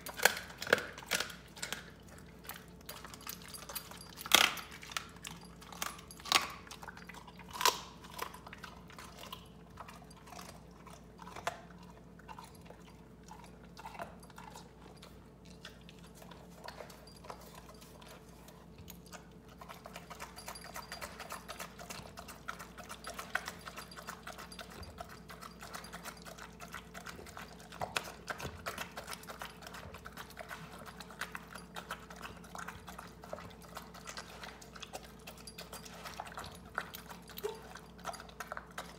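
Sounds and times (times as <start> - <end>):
dog chewing and crunching: 0.0 - 38.9.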